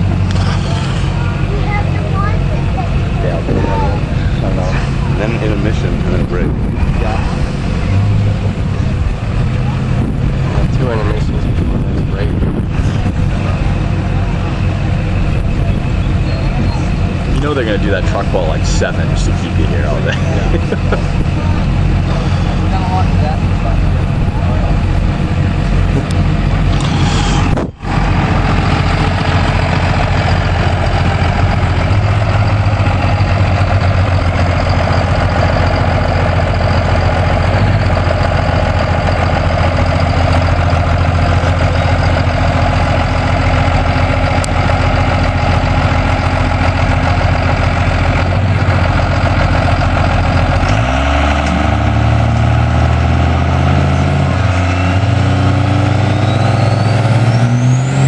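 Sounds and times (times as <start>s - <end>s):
truck engine running and revving: 0.0s - 58.0s.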